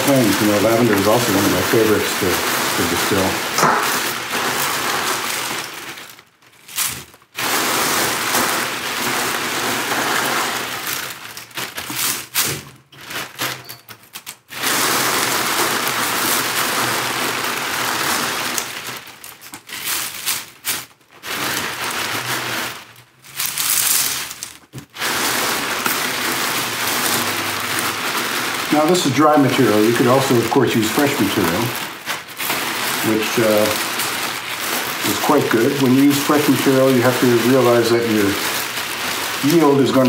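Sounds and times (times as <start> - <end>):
dry leaves rustling: 0.0 - 12.4, 14.5 - 40.0
plastic bag crinkling: 0.0 - 40.0.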